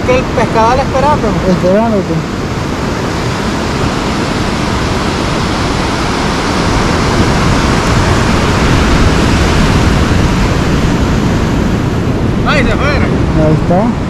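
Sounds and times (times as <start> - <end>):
ocean surf breaking on beach: 0.0 - 14.0.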